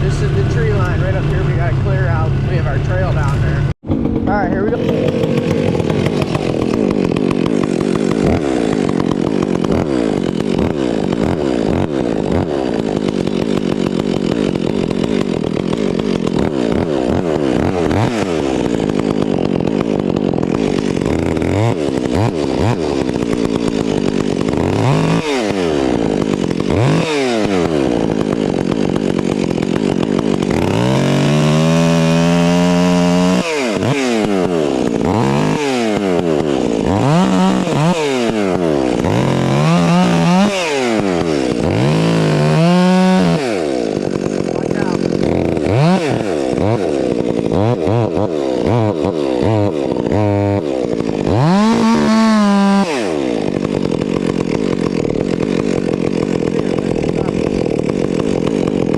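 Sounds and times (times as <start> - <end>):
chainsaw revving: 0.0 - 58.9.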